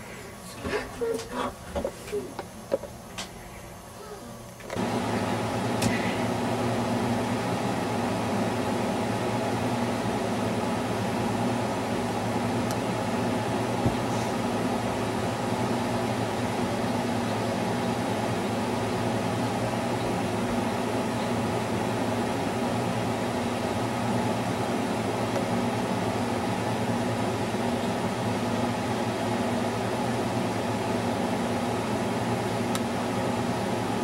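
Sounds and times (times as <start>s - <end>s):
mechanical whir with low hum: 0.0s - 34.0s.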